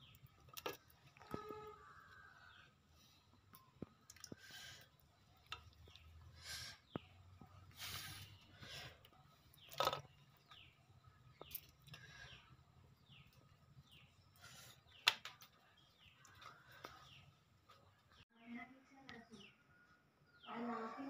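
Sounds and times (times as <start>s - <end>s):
bird chirping: 0.0s - 20.9s.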